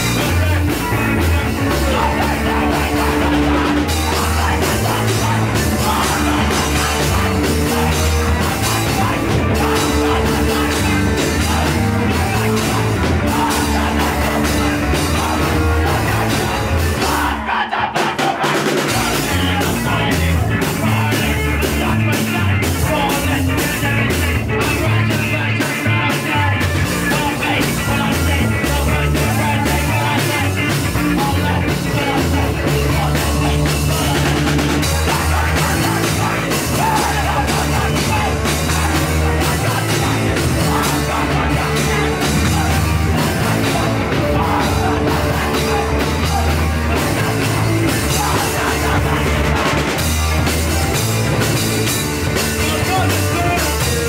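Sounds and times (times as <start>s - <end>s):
punk band playing live: 0.0s - 54.0s.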